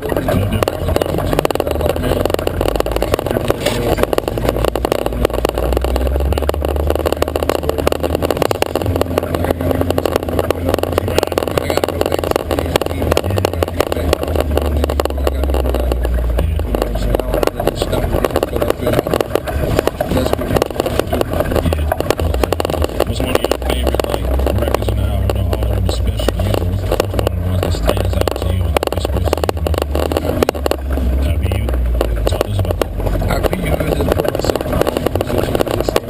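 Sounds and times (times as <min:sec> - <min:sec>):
engine low steady drone: 0:00.0 - 0:36.0
vehicle rattling on rough trail: 0:00.0 - 0:36.0.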